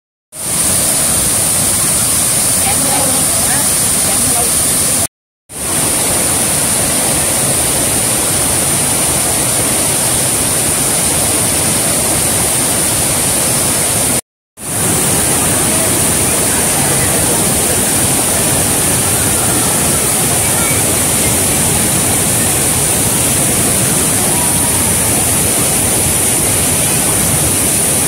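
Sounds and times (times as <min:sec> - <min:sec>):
water rushing over rocks: 0:00.4 - 0:28.0.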